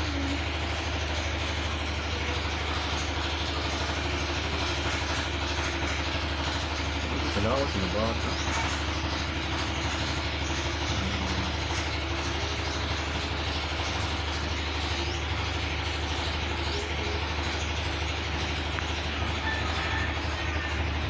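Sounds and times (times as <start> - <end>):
low mechanical rumble: 0.0 - 21.0.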